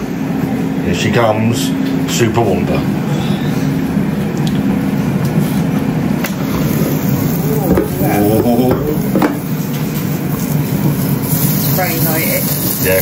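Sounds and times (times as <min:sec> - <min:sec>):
air fryer fan hum: 0:00.0 - 0:13.0.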